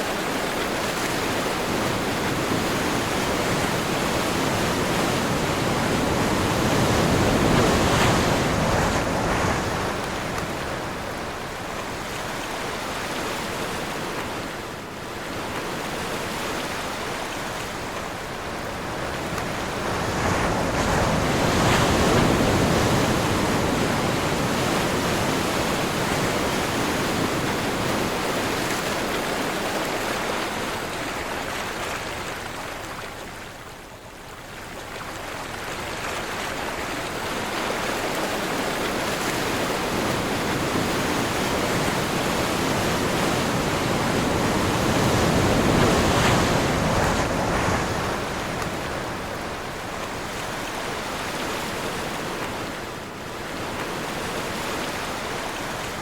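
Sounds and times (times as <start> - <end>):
sea waves and surf: 0.0 - 56.0
wind: 0.0 - 56.0.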